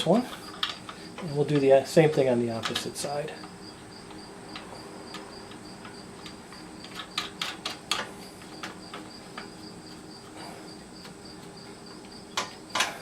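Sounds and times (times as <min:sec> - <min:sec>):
crickets chirping: 0:00.0 - 0:13.0
sharp clicks and knocks: 0:00.3 - 0:10.0, 0:11.0 - 0:13.0.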